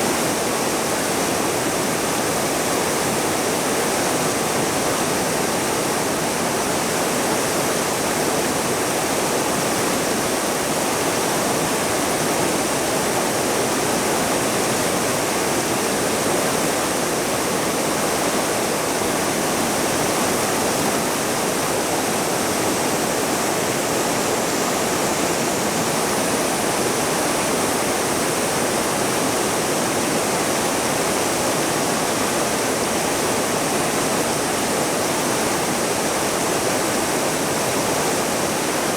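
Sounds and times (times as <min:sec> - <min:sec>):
waterfall and river rapids rushing: 0:00.0 - 0:38.9.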